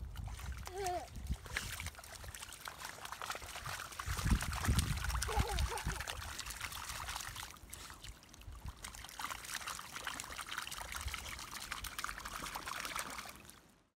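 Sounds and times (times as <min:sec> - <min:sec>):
dog splashing through puddle: 0:00.1 - 0:13.6.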